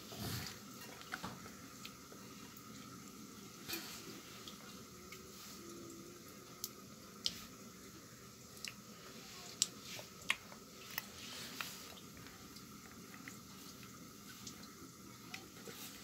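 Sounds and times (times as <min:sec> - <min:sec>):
soft squishing of rice: 0:00.0 - 0:16.0.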